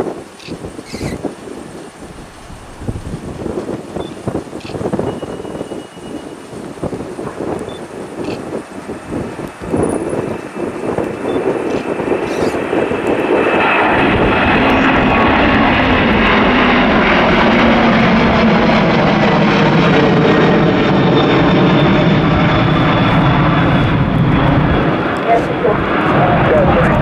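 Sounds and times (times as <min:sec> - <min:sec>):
jet aircraft climbing out: 0:00.3 - 0:27.0.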